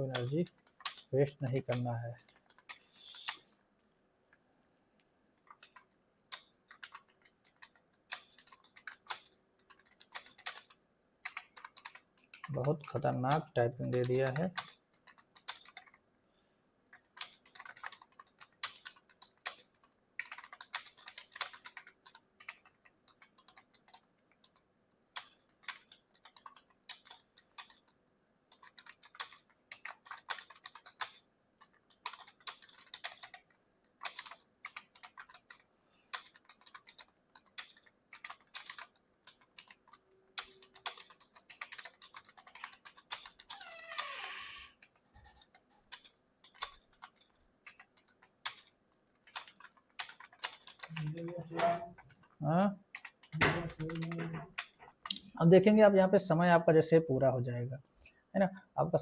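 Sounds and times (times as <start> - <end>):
keyboard typing: 0.0 - 3.6, 5.3 - 16.0, 16.9 - 56.8.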